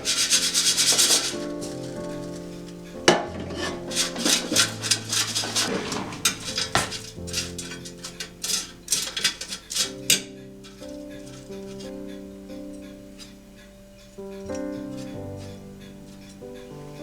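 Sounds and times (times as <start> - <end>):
kitchenware clattering: 0.0 - 17.0.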